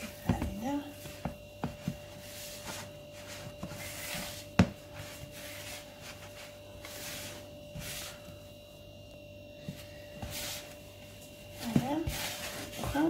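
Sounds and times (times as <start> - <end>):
faint electrical hum: 0.0 - 13.0
hands kneading dough: 0.0 - 13.0.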